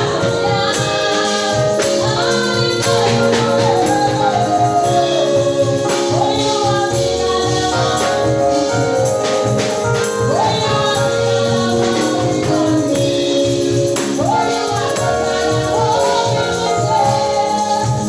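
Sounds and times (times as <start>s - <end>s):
choir singing over a beat: 0.0s - 18.0s
tambourine shaking: 0.0s - 18.0s.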